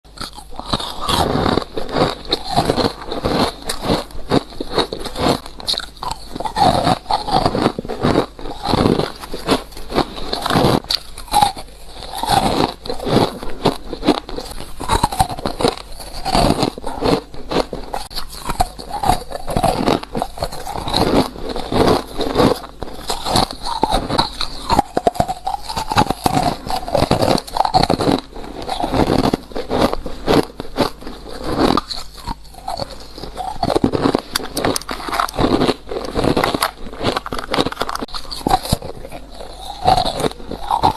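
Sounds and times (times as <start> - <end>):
ice crunching between teeth: 0.1 - 40.9.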